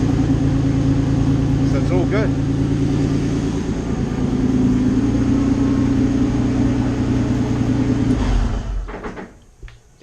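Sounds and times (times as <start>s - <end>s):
race car engine idling: 0.0s - 8.8s
engine shudder and stopping: 0.0s - 9.4s.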